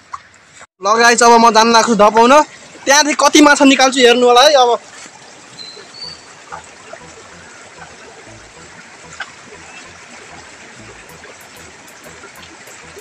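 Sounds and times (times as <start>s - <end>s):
river water trickling: 0.0s - 0.6s, 1.8s - 13.0s.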